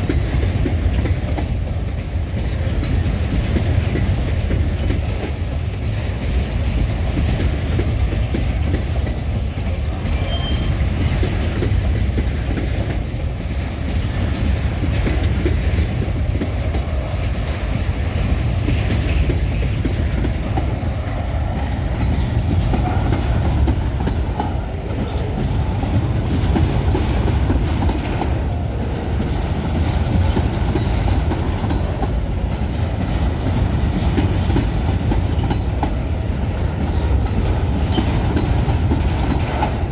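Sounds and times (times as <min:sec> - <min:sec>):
freight train rumbling: 0:00.0 - 0:39.9
wheels clicking over rail joints: 0:00.0 - 0:39.9.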